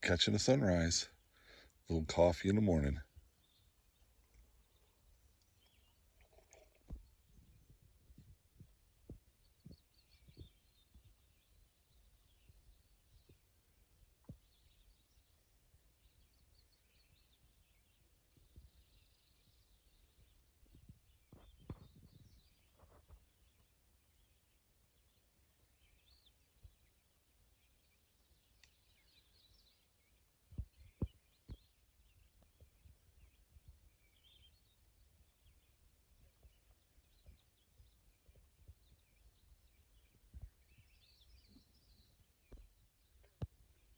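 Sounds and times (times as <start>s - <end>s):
faint birdsong: 0.0s - 43.9s.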